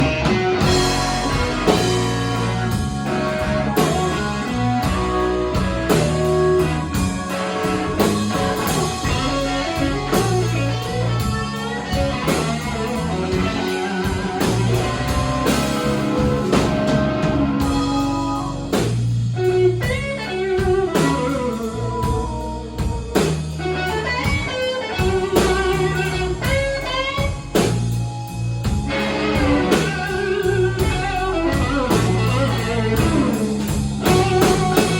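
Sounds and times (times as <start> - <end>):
blues band playing: 0.0 - 34.9
electric guitar bent notes: 0.0 - 34.9.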